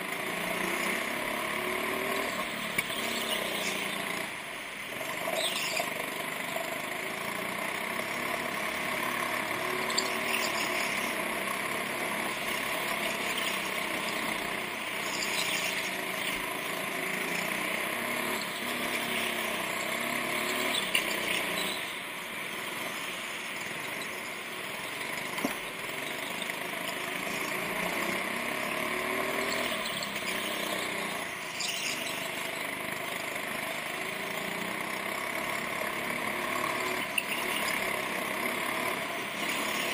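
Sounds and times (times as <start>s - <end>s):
go-kart engine running: 0.0s - 39.9s
tire squeals: 0.0s - 39.9s.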